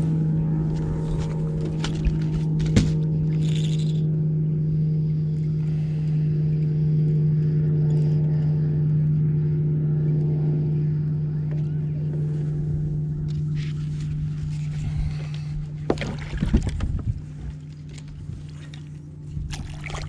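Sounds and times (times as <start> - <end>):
boat motor hum: 0.0 - 20.0.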